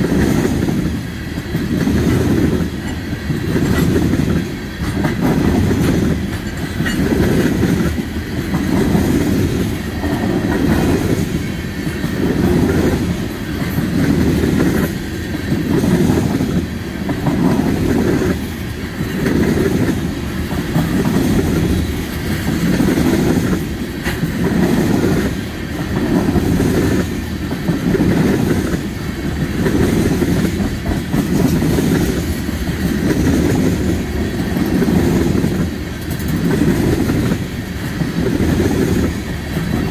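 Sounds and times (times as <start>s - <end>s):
freight train wheels rumbling past: 0.0s - 39.9s.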